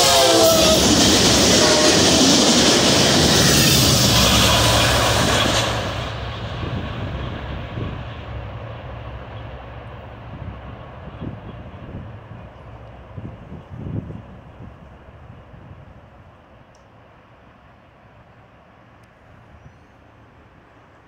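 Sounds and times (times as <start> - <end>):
train rolling past on rails: 0.0 - 21.0.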